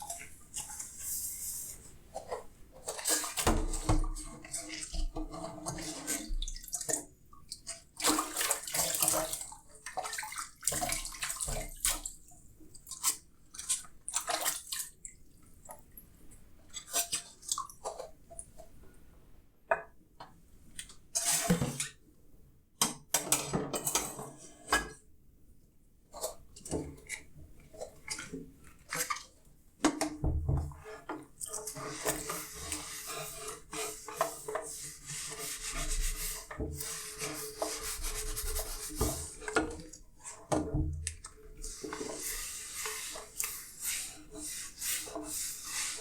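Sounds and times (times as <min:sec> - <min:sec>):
water splashing in a sink: 0:00.0 - 0:18.7, 0:26.2 - 0:46.0.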